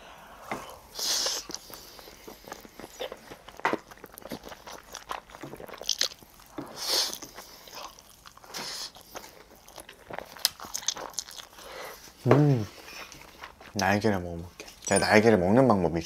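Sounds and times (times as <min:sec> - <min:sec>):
wet chewing and lip smacks: 0:00.9 - 0:14.0.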